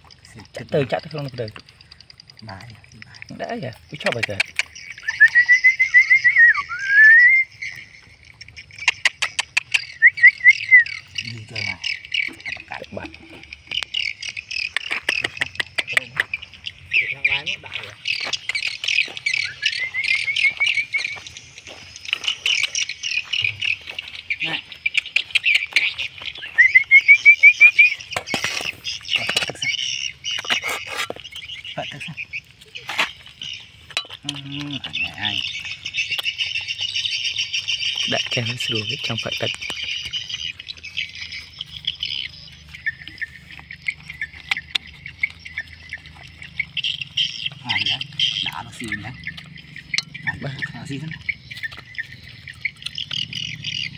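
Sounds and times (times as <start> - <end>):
birds chirping: 0.0 - 53.9
insects chirping: 0.0 - 53.9
puppy eating and drinking: 0.0 - 53.9.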